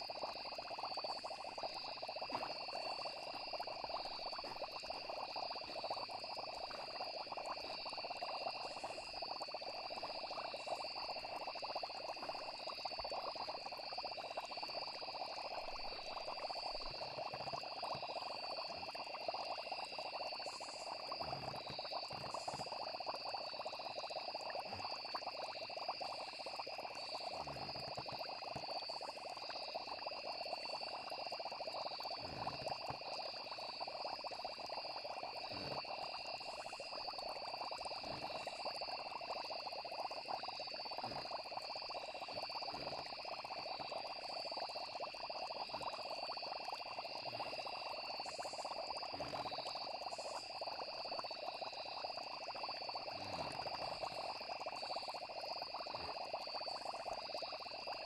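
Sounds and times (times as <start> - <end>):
frogs calling: 0.0 - 57.9
crickets trilling: 0.0 - 58.0
soft low bubbling: 0.0 - 58.0.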